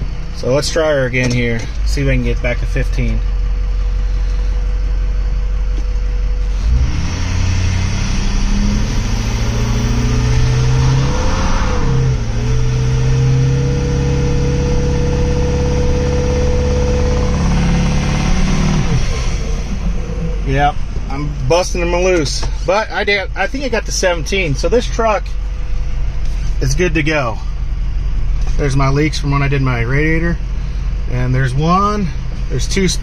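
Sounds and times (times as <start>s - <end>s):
diesel engine idling and revving: 0.0s - 33.0s.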